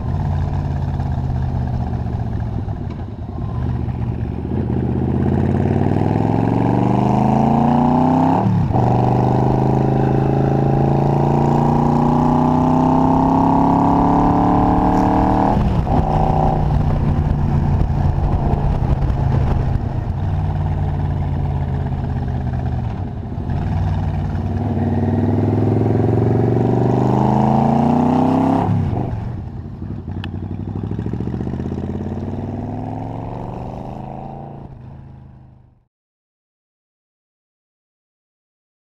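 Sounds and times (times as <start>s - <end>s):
motorcycle engine shifting gears: 0.0s - 35.7s.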